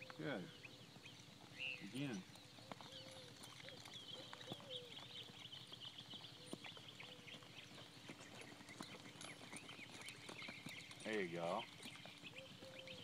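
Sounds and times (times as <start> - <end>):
horse hoofbeats: 0.0 - 13.0.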